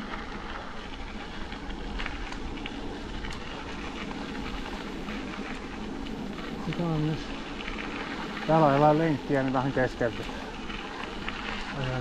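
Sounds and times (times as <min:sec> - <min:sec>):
bike tyres rolling on gravel: 0:00.0 - 0:12.0.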